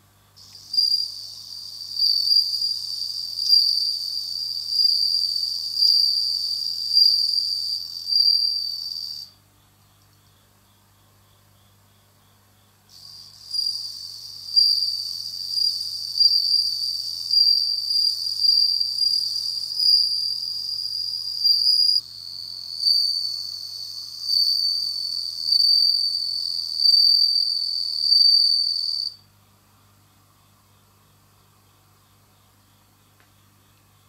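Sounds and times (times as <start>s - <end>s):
cricket trilling: 0.4s - 29.2s.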